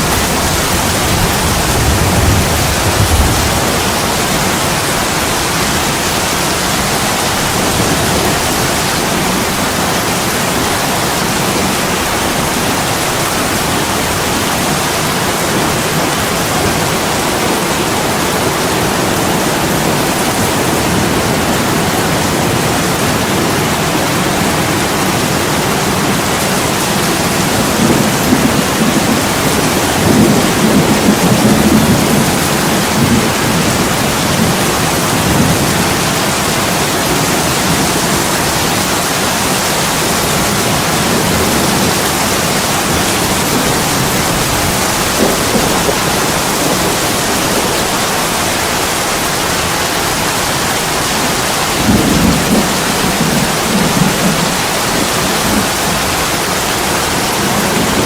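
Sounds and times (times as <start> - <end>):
heavy rain on window and roof: 0.0 - 58.0.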